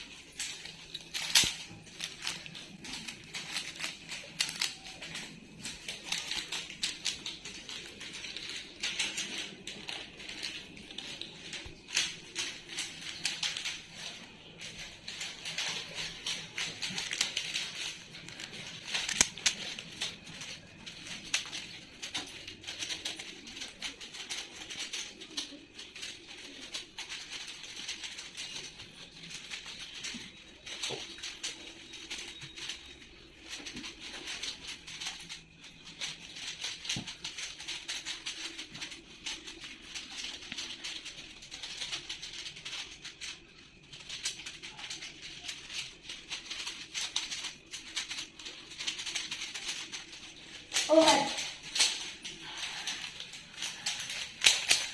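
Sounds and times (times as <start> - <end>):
puzzle cubes clicking: 0.0 - 54.9.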